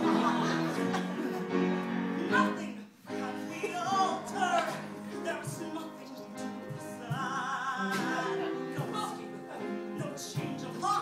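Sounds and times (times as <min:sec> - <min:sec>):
piano accompaniment: 0:00.0 - 0:11.0
person singing: 0:02.2 - 0:11.0.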